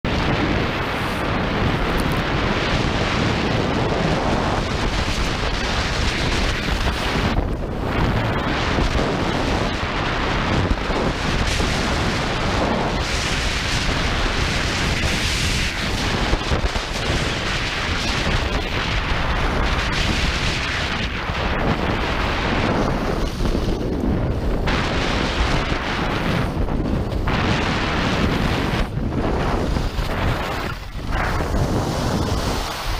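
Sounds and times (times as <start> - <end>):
wind buffeting microphone: 0.0 - 32.9
skis sliding on snow: 0.2 - 32.9.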